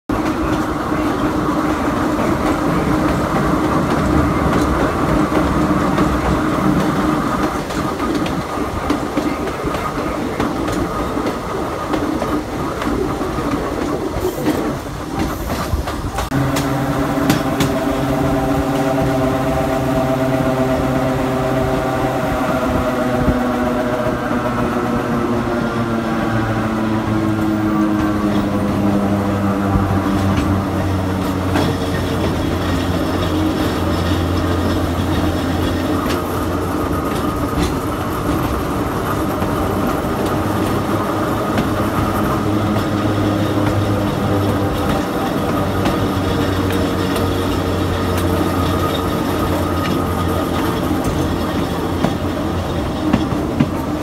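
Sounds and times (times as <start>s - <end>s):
train wheel and running noise: 0.1s - 54.0s
train wheel clacks: 0.1s - 54.0s.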